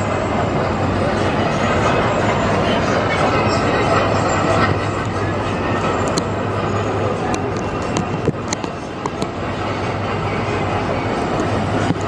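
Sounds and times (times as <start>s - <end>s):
city noise: 0.0s - 12.0s
rushing wind: 0.0s - 12.0s.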